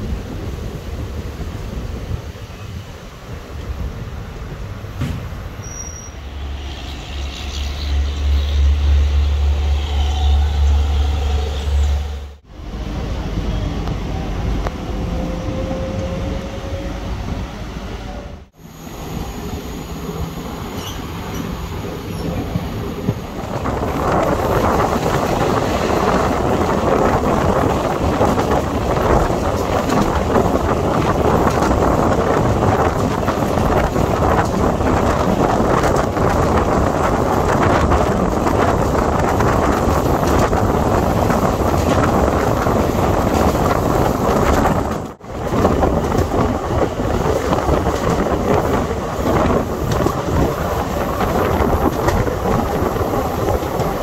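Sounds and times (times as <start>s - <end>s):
train wheel and track noise: 0.0s - 54.0s.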